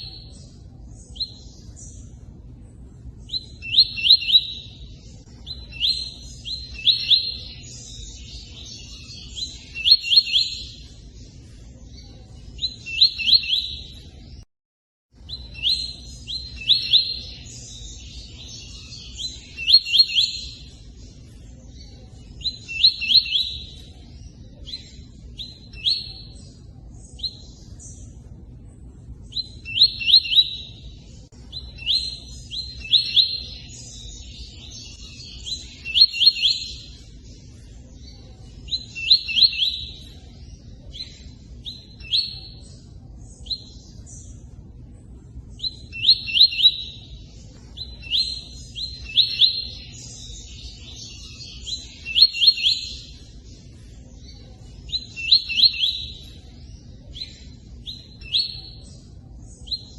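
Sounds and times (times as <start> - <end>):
bird chirping: 0.0 - 14.5, 15.2 - 59.9.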